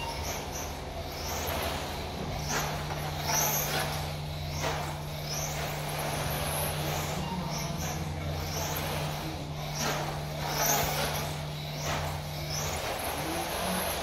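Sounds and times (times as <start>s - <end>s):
rc car motor whining: 0.0s - 14.0s
steady low hum: 0.0s - 14.0s.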